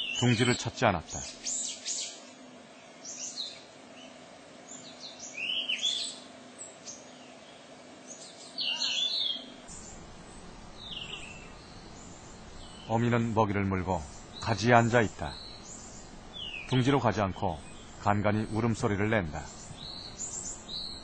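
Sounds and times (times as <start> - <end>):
birds chirping: 0.0 - 21.0
faint background hiss: 0.0 - 21.0.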